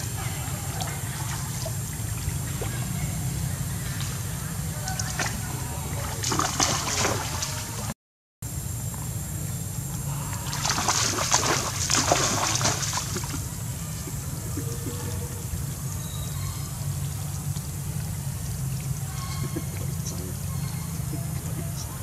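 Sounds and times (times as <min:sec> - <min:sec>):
monkeys splashing in muddy water: 0:00.0 - 0:07.9, 0:10.0 - 0:22.0.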